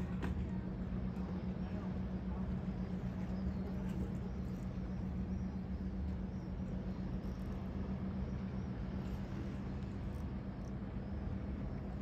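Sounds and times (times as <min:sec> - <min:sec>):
boat engine hum: 0:00.0 - 0:12.0.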